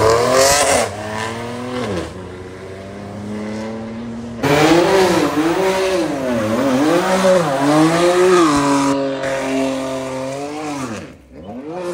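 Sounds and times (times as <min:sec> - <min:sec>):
sports car engine revving: 0:00.0 - 0:11.9.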